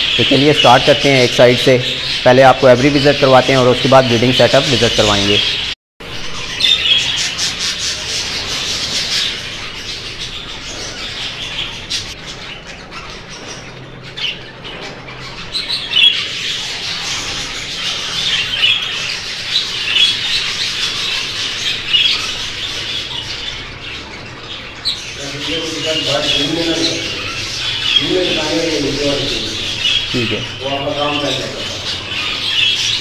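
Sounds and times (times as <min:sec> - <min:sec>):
budgerigars chattering and squawking: 0:00.0 - 0:33.0.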